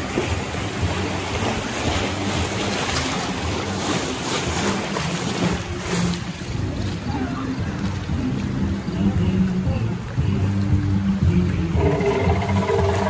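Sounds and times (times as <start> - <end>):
rushing churning water: 0.0 - 13.0.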